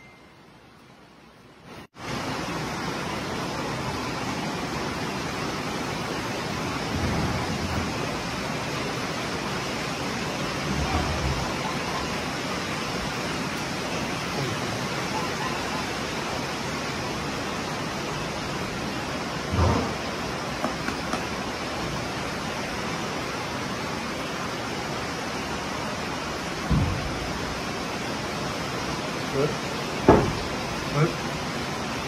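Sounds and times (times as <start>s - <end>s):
steady rushing hiss: 0.0s - 32.0s.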